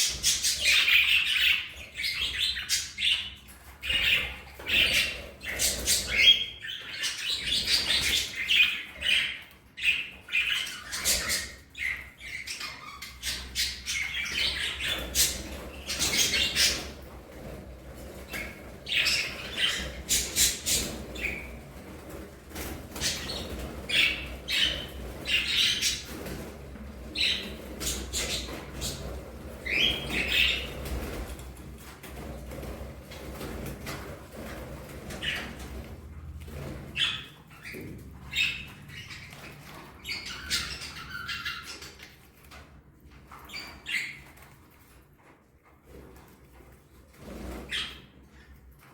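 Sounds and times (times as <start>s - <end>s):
budgerigars chirping and squawking: 0.0s - 31.4s, 35.0s - 35.9s, 36.6s - 42.2s, 43.4s - 44.4s, 47.5s - 48.5s.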